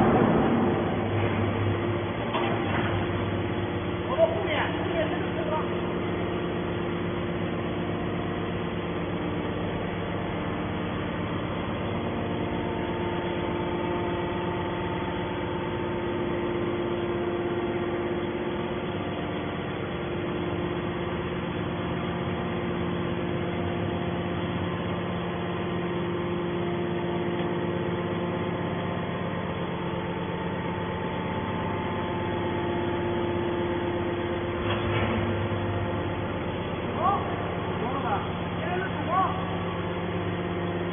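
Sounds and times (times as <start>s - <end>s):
hydraulic machine hum: 0.0s - 40.9s.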